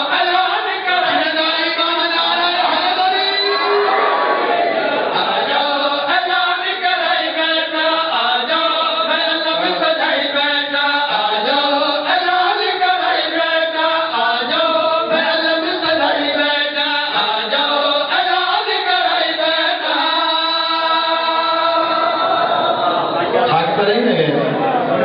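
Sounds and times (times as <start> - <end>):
man chanting into a microphone: 0.0 - 3.8, 5.1 - 24.6.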